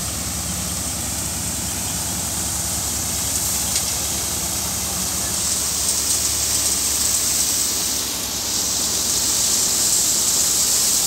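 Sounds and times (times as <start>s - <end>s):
threshing drum rushing hiss: 0.0s - 11.0s
tractor engine low hum: 0.0s - 11.0s.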